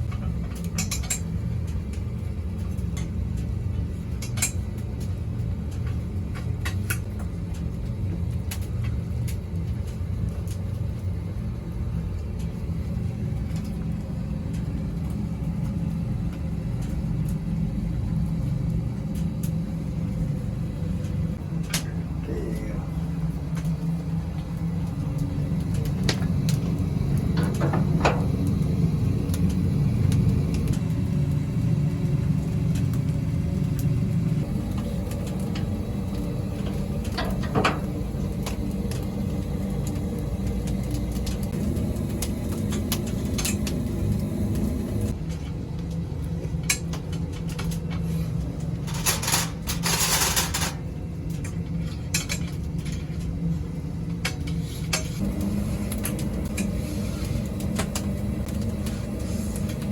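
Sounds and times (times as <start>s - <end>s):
low mechanical rumble: 0.0s - 59.9s.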